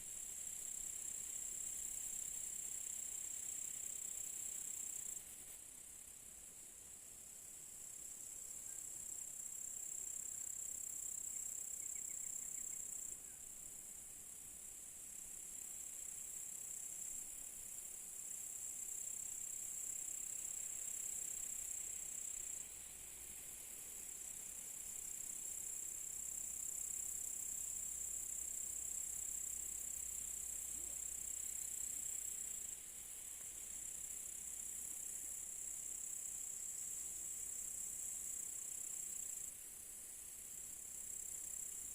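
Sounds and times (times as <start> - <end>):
crickets trilling: 7.3 - 41.9.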